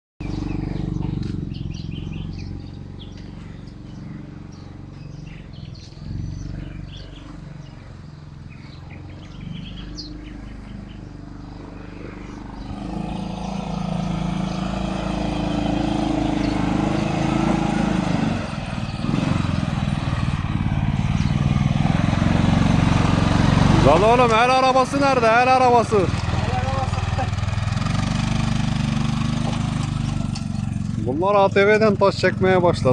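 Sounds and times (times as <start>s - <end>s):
atv engine running: 0.2s - 32.9s
birds chirping: 0.2s - 32.9s.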